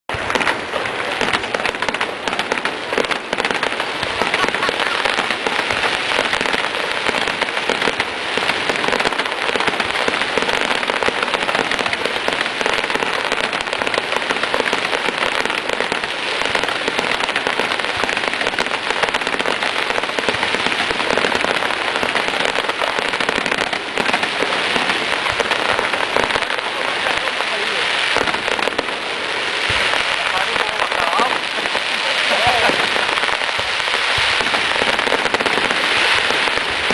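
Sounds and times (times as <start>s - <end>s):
fireworks crackling barrage: 0.0s - 36.9s.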